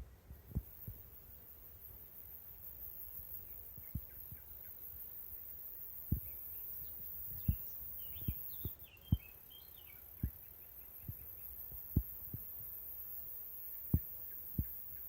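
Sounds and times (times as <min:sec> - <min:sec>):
small birds chirping: 0:02.5 - 0:15.0.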